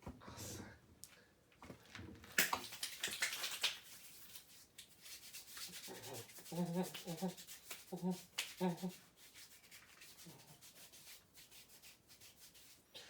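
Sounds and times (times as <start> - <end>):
rustling and rubbing: 1.7 - 12.9.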